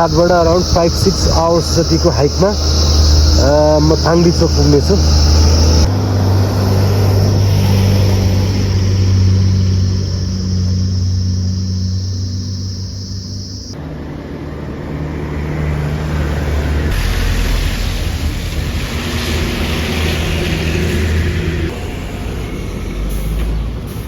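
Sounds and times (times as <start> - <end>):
road and wind noise: 0.0 - 24.0
vehicle engine humming: 0.0 - 24.0.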